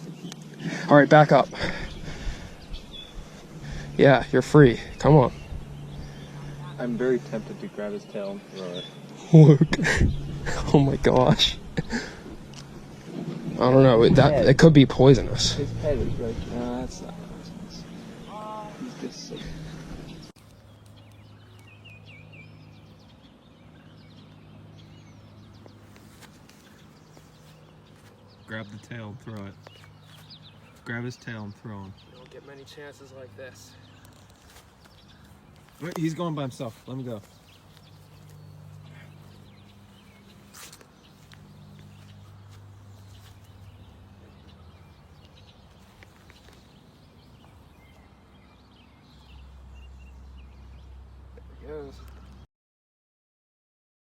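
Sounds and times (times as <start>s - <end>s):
steady low hum: 0.0s - 50.3s
small birds chirping: 0.0s - 52.5s.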